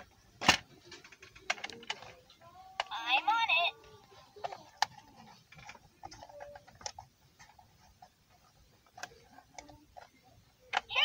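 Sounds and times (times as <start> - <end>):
clicks and taps handling toy boxes: 0.0 - 3.1, 3.8 - 11.0.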